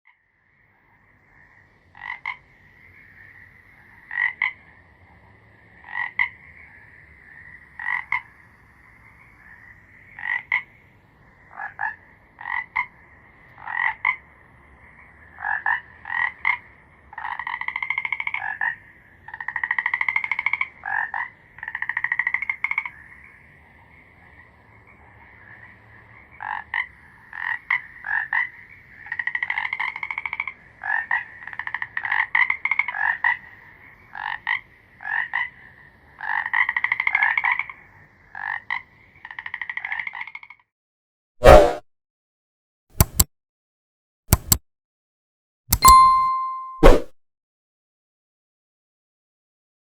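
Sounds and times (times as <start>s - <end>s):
frogs croaking: 0.1s - 40.6s.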